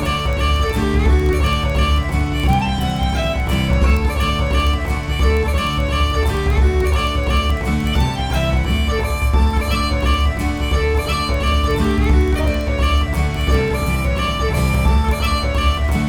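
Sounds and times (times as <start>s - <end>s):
upbeat country instrumental music: 0.0s - 16.0s.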